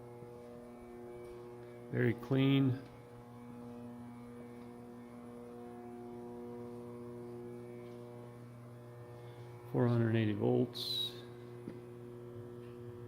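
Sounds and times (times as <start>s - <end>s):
furnace electrical hum: 0.0s - 13.0s.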